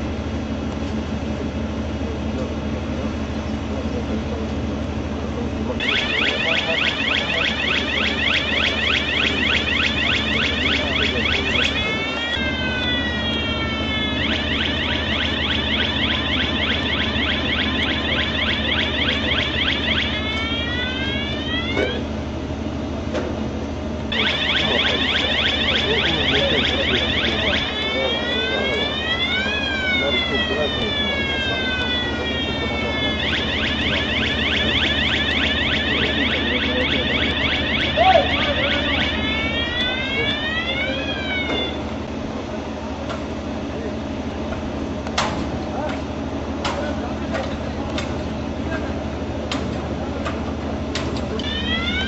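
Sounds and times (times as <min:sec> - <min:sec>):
low machinery hum: 0:00.0 - 0:52.0
electronic warning siren: 0:05.0 - 0:45.5, 0:47.6 - 0:52.0.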